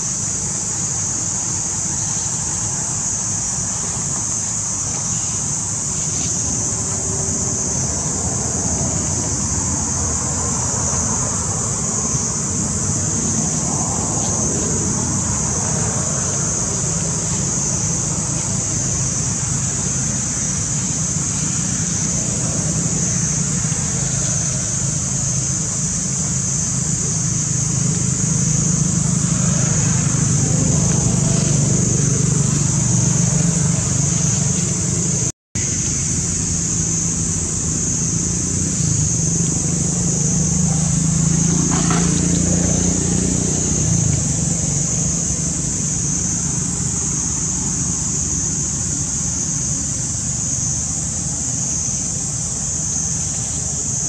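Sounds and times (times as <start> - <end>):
high-pitched hiss: 0.0 - 54.0.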